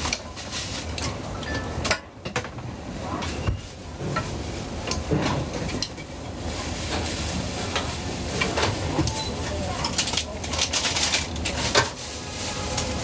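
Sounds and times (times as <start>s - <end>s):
utensils clattering on pans: 0.0s - 13.0s.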